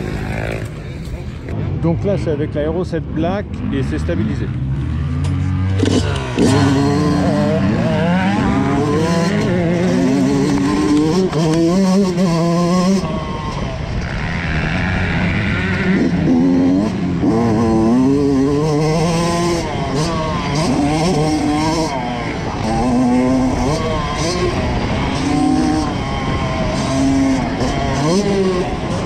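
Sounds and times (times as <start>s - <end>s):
motocross bike engine revving: 0.0s - 1.6s, 3.0s - 29.0s.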